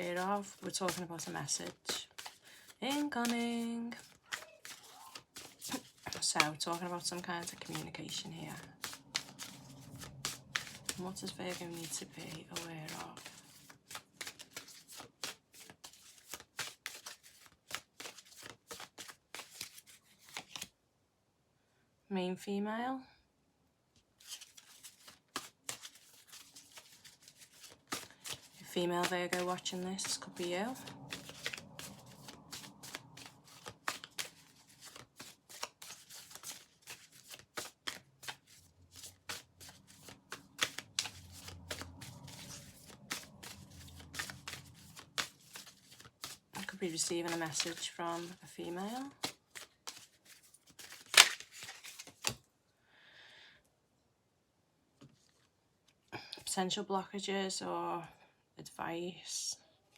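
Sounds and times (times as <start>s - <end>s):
cards being shuffled: 0.0s - 20.7s, 24.2s - 52.4s.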